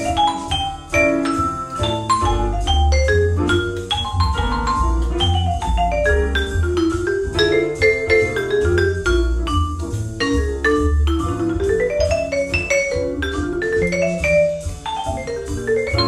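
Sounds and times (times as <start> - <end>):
vibraphone playing: 0.0 - 16.0
low bass line: 1.8 - 16.0.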